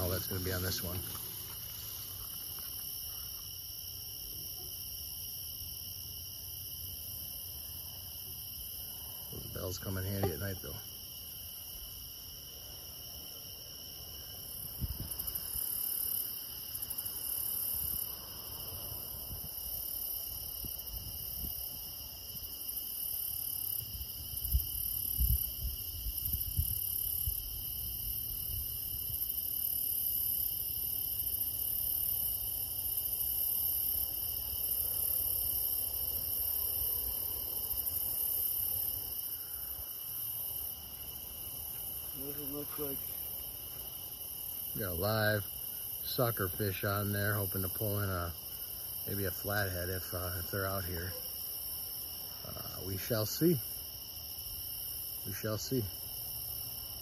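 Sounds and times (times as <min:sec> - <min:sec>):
crickets and night insects chirping: 0:00.0 - 0:57.0.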